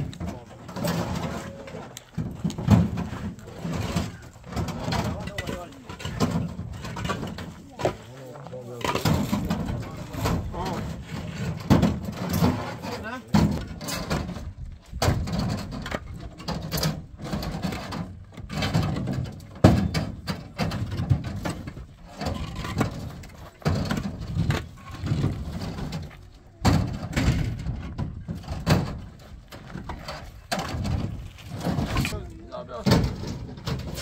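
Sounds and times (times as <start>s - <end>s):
concrete blocks knocking and scraping: 0.0s - 34.0s.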